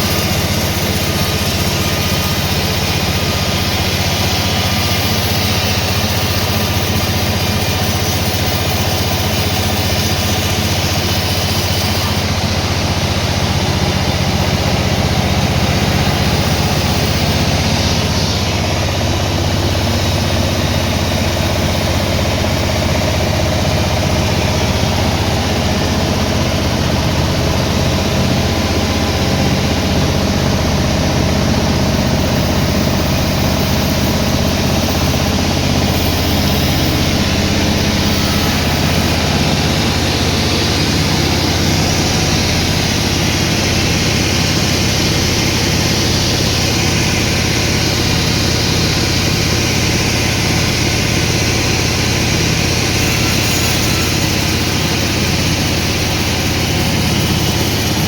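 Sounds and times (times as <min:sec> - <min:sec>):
sawmill engine humming: 0:00.0 - 0:58.0.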